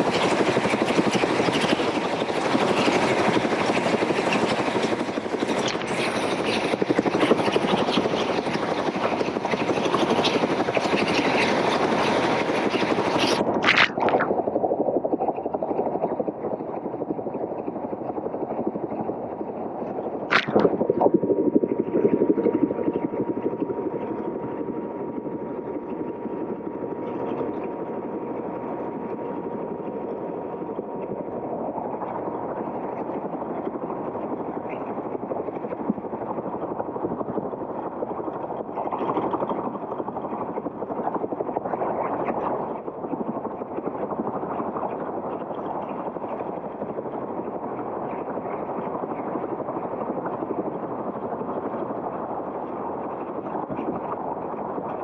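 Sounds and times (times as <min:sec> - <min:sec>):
muffled helicopter noise: 0:00.0 - 0:55.0.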